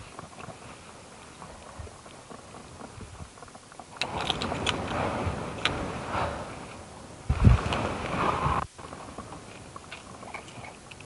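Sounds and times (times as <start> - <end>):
rustling and crackling with clicks: 0.0 - 6.0, 6.6 - 11.0.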